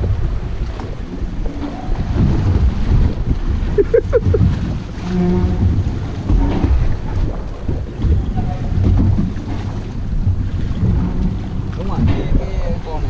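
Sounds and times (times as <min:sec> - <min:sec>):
water washing against hull: 0:00.0 - 0:13.0
wind buffeting microphone: 0:00.0 - 0:13.0.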